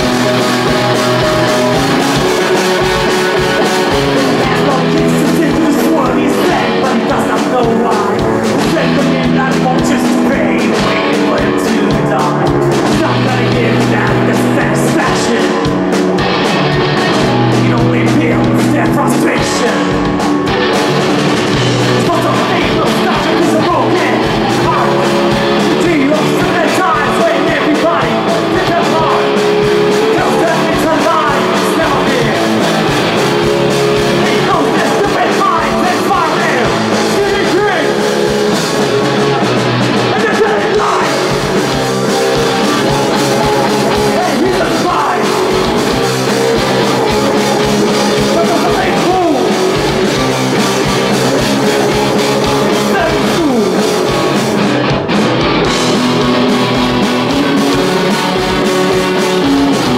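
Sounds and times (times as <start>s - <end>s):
bass guitar: 0.0s - 59.9s
drums: 0.0s - 59.9s
electric guitar: 0.0s - 59.9s.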